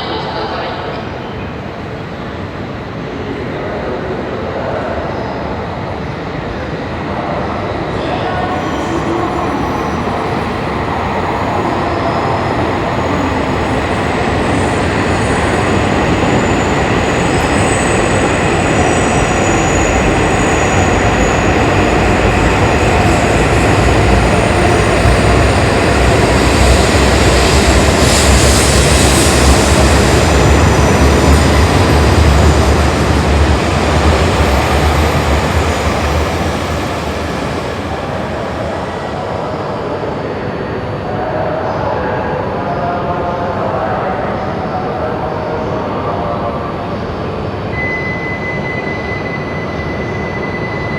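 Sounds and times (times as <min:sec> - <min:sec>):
bullet train rushing rumble: 0:00.0 - 0:50.9.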